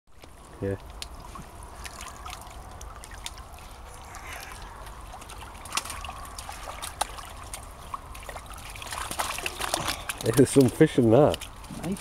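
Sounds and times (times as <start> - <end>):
water splashes: 0.1 - 12.0
water trickling and dripping: 0.1 - 12.0.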